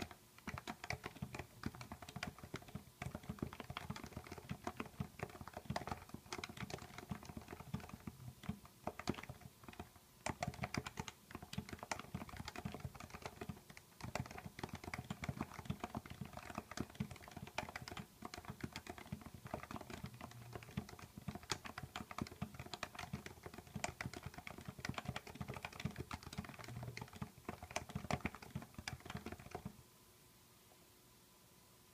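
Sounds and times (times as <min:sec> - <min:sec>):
keyboard typing: 0:00.0 - 0:29.8.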